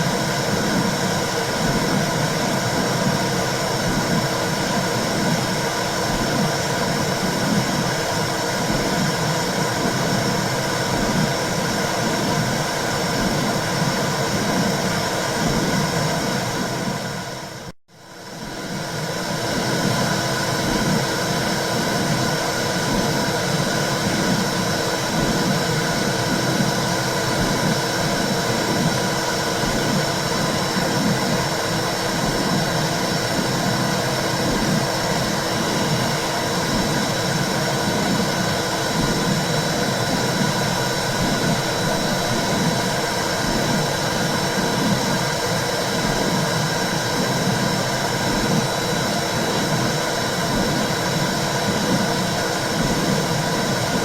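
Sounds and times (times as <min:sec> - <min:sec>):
rhythmic low heartbeat pulse: 0:00.0 - 0:17.6, 0:18.4 - 0:54.0.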